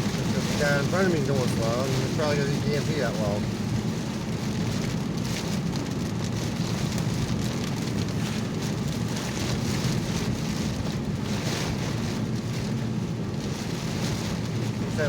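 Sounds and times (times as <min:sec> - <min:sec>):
rain on car roof: 0:00.0 - 0:15.0
road and engine noise: 0:00.0 - 0:15.0.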